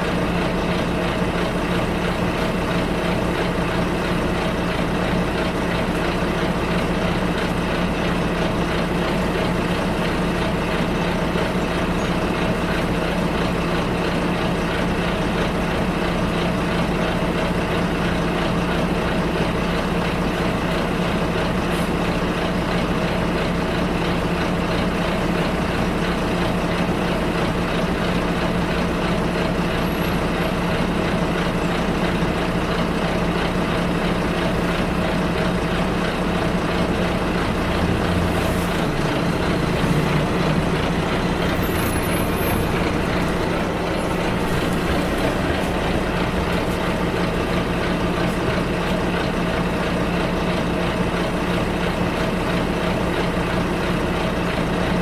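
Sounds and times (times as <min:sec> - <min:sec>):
bus engine hum: 0:00.0 - 0:55.0
road noise inside bus: 0:00.0 - 0:55.0.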